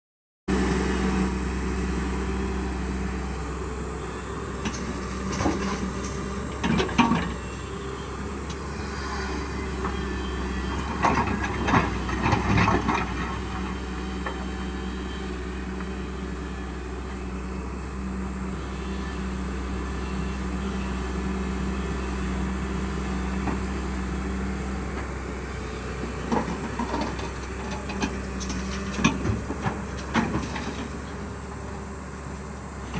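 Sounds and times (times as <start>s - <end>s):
excavator engine running: 0.5s - 32.9s.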